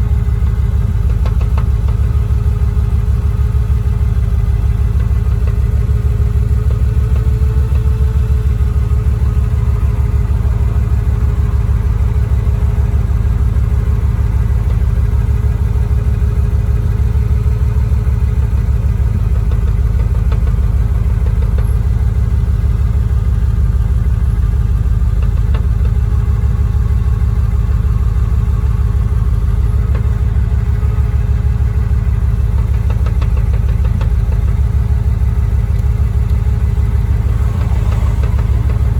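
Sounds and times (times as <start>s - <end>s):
car engine idling: 0.0s - 38.9s
gear shifter rattling: 0.2s - 38.9s.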